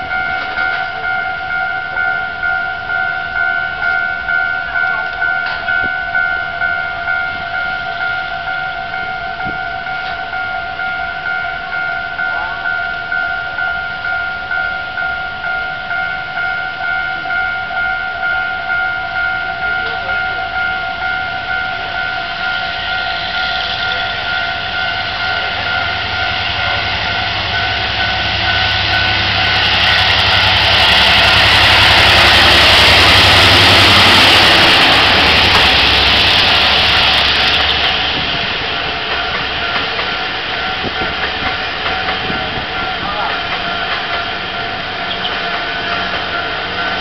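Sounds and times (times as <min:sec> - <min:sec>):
train rumbling past: 0:00.0 - 0:47.0
two-tone crossing warning signal: 0:00.0 - 0:47.0.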